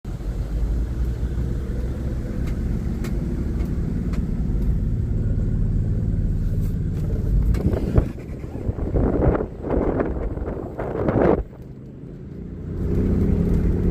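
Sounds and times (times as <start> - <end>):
vehicle engine rumbling: 0.0 - 13.9.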